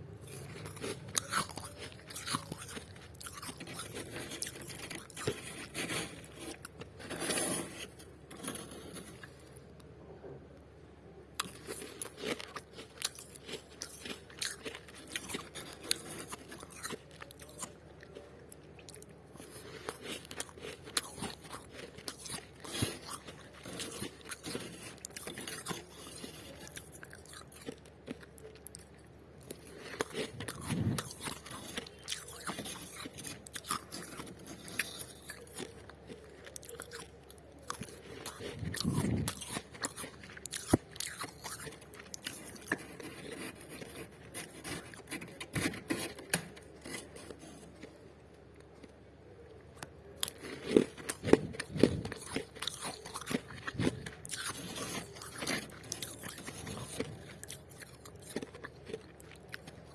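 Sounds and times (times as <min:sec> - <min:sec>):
chewing crunchy frost: 0:00.0 - 0:09.7, 0:11.4 - 0:59.9.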